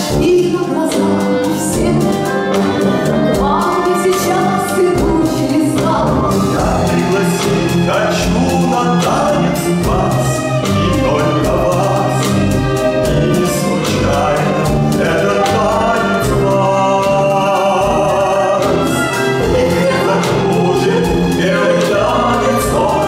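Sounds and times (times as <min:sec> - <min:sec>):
song with band and singing: 0:00.0 - 0:23.0.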